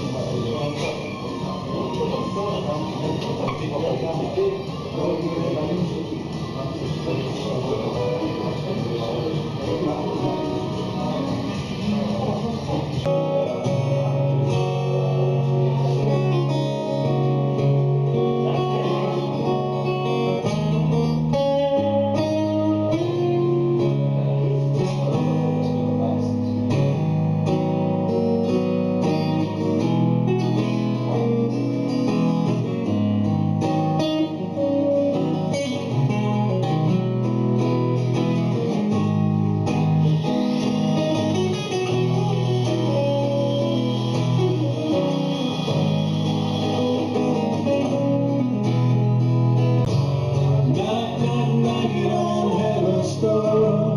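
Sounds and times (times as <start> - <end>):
strummed guitar chords: 0.0 - 53.9.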